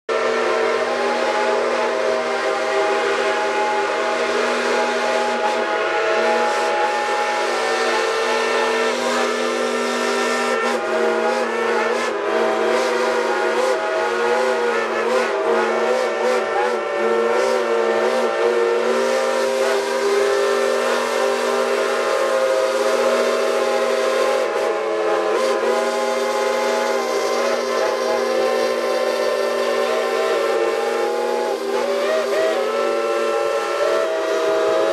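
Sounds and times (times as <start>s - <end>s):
steam whistles chord: 0.1s - 34.9s.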